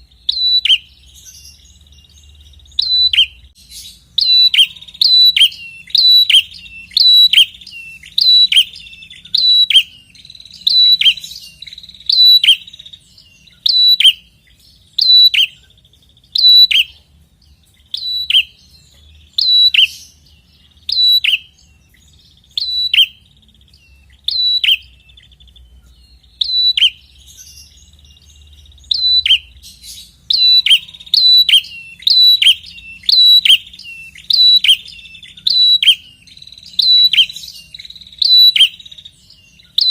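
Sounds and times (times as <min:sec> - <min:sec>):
bird calling sharp notes: 0:00.0 - 0:17.0, 0:17.8 - 0:21.7, 0:22.3 - 0:23.4, 0:24.0 - 0:25.6, 0:26.2 - 0:39.9.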